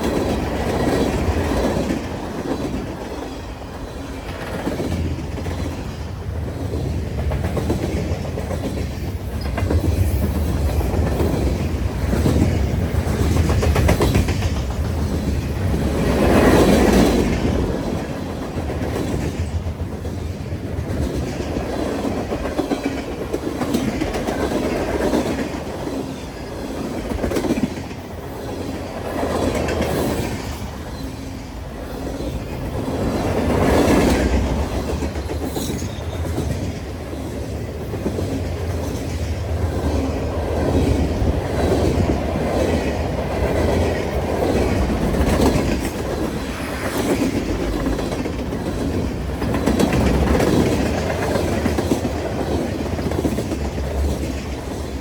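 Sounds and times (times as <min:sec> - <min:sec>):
train rumble: 0:00.0 - 0:55.0
train wheels clacking on rails: 0:00.0 - 0:55.0.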